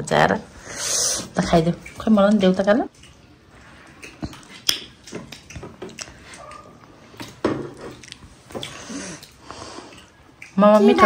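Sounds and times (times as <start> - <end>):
chewing with wet mouth smacks: 1.6 - 11.0.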